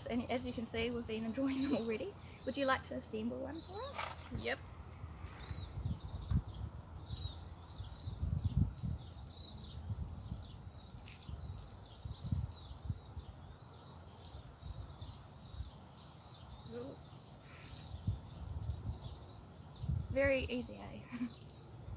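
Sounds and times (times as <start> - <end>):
insects buzzing: 0.0 - 21.9.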